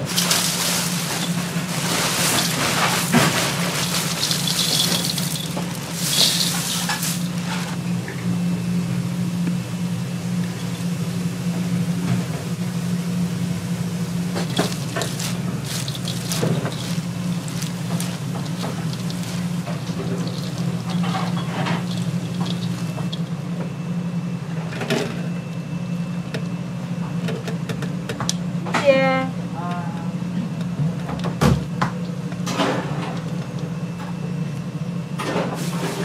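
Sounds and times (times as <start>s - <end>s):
kitchen hum: 0.0s - 29.8s, 30.6s - 36.0s.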